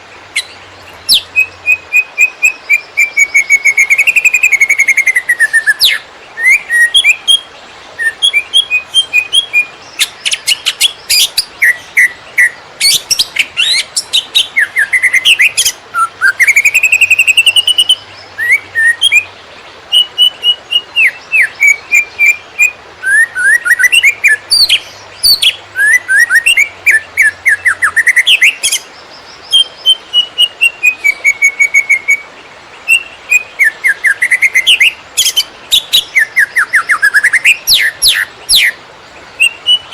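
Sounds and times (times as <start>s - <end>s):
bird singing rapid chirps: 0.1s - 39.9s.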